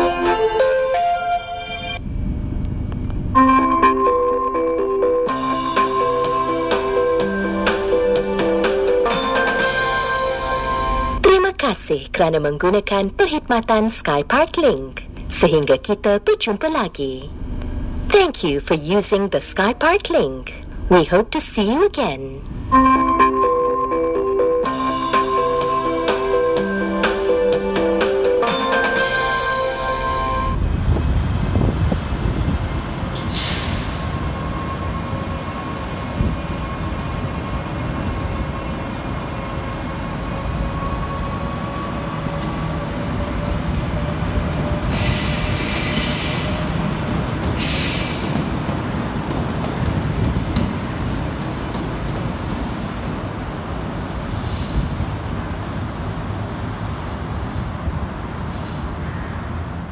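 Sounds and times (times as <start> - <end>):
electric train rumbling on rails: 0.0 - 59.9.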